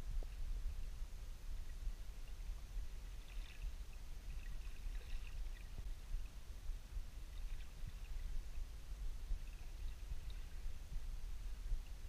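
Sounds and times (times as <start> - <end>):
faint crackles and ticks: 0.0 - 12.0
low rumble of water underwater: 0.0 - 12.0.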